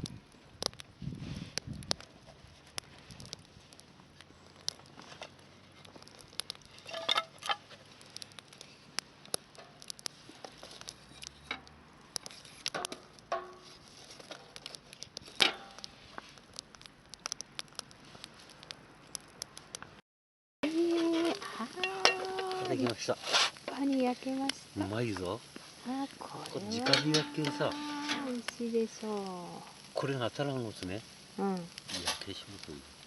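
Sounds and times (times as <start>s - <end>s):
wood fire crackling and popping: 0.0s - 20.0s, 20.6s - 33.0s.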